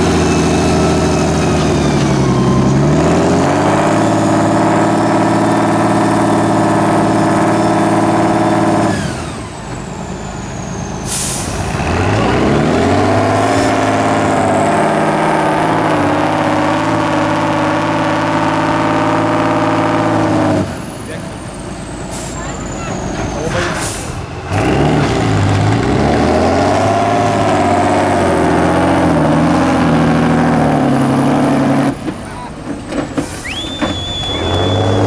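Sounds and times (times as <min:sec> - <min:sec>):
truck diesel engine revving: 0:00.0 - 0:35.0.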